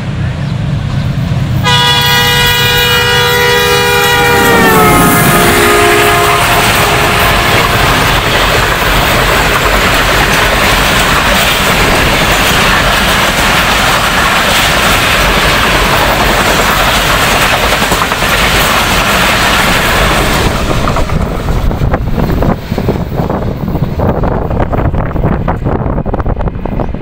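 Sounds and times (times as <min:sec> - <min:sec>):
train wheels on rail: 0:00.0 - 0:27.0
wind buffeting microphone: 0:04.1 - 0:27.0.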